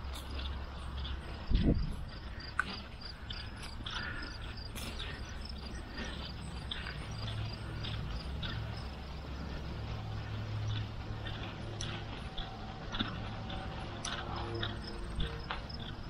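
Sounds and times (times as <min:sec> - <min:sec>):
cart knocking and rattling: 0:00.0 - 0:16.0
steady low hum: 0:00.0 - 0:16.0.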